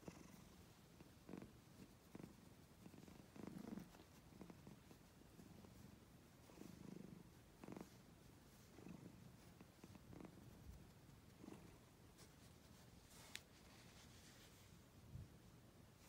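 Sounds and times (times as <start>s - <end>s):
cat purring softly: 0.0s - 16.0s.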